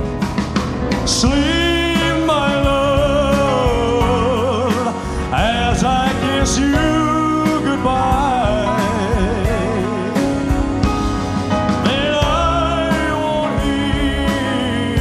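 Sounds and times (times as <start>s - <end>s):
live rock band playing ballad: 0.0s - 15.0s
backing singers holding wordless notes: 0.8s - 15.0s.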